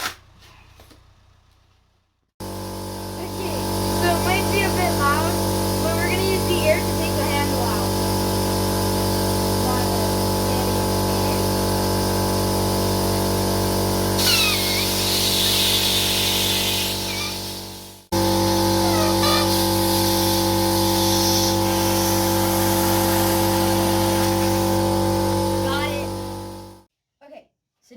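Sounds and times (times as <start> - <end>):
air compressor humming: 2.4 - 26.9
compressed air hissing from nozzle: 2.7 - 26.7.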